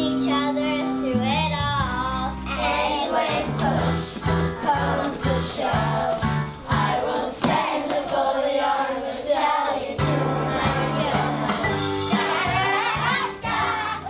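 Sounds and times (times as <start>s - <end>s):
children singing together: 0.0s - 14.0s
recorded backing track: 0.0s - 14.0s.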